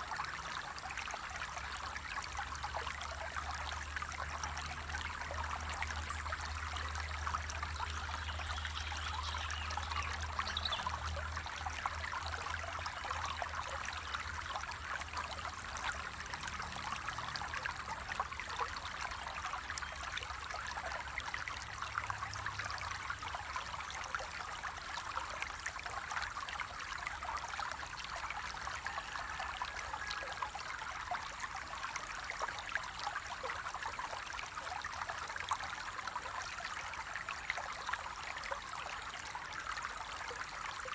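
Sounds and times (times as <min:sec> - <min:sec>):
small splashes and trickles: 0:00.0 - 0:40.9.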